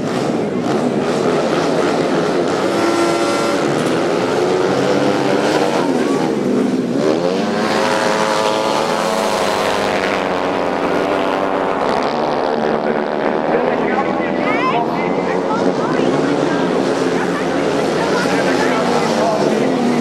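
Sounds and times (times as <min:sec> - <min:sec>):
motorcycles racing: 0:00.0 - 0:20.0.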